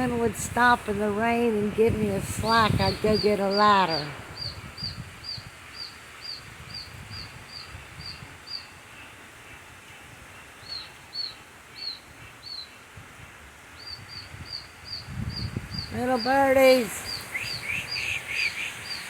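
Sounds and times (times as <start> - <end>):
rain and wind hiss: 0.0 - 19.0.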